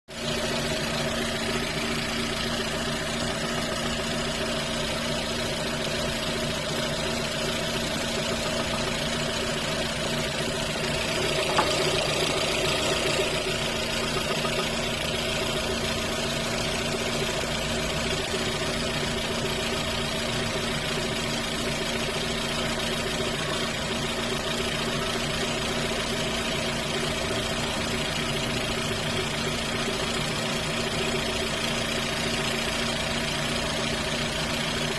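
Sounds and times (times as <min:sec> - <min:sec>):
car engine idling with knock: 0:00.2 - 0:34.9.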